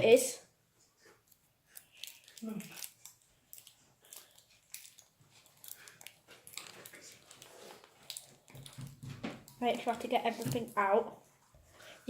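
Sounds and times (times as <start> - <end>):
clicks and rustles of handling: 0.9 - 11.7.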